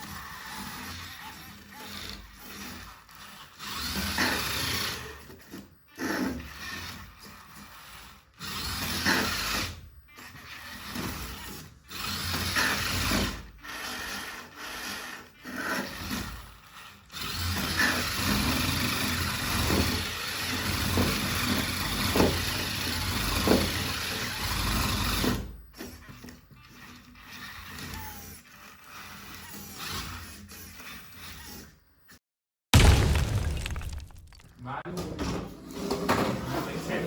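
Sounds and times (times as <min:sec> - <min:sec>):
toy car motor whirring: 0:00.0 - 0:31.8.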